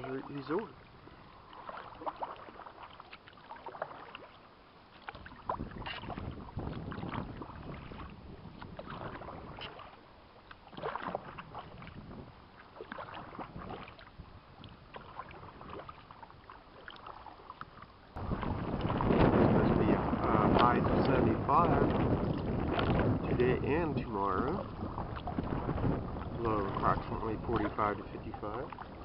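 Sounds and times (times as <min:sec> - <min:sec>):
water dripping from paddle: 0:00.0 - 0:12.0, 0:12.6 - 0:19.5, 0:21.8 - 0:23.2, 0:24.6 - 0:29.0
paddle splashing in water: 0:00.0 - 0:29.0.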